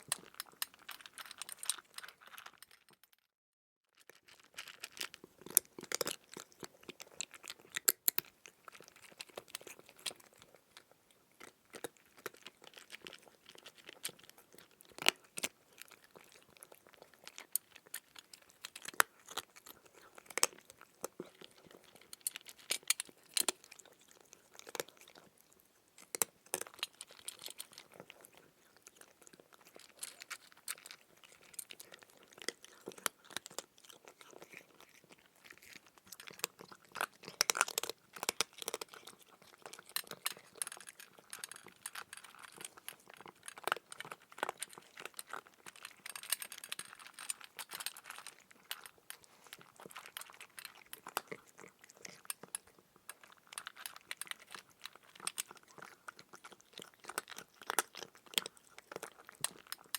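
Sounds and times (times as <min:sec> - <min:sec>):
cat chewing crunchy food: 0:00.0 - 0:03.1, 0:04.0 - 0:59.9.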